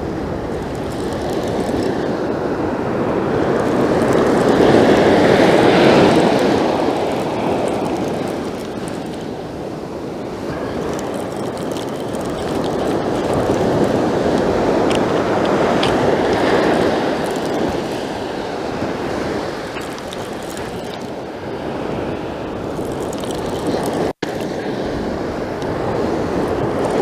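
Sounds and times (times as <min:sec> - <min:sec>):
surf washing onto beach: 0:00.0 - 0:27.0.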